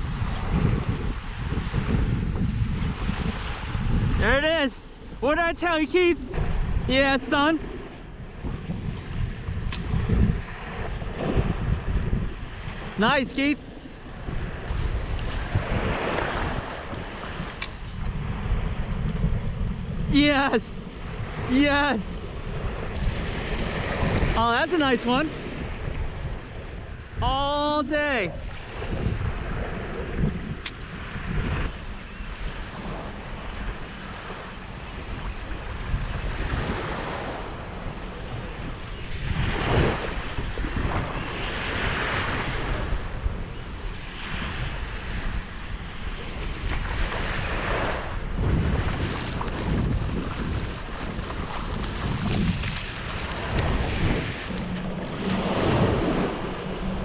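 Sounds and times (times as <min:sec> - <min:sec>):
waves breaking on beach: 0:00.0 - 0:57.0
wind buffeting microphone: 0:00.0 - 0:57.0.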